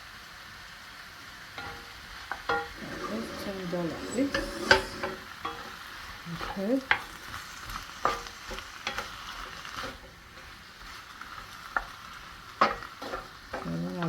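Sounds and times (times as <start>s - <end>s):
food sizzling in a wok: 0.0s - 14.0s
spatula scraping pan: 1.6s - 11.0s, 11.7s - 14.0s.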